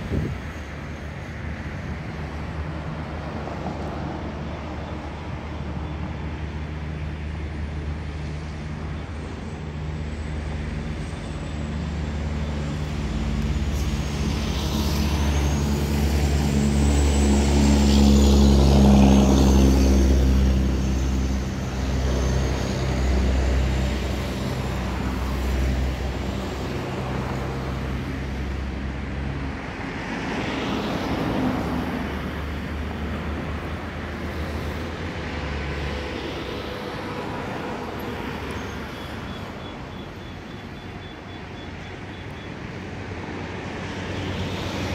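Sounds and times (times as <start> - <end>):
road traffic hum: 0.0 - 44.9
vehicles passing: 0.0 - 44.9.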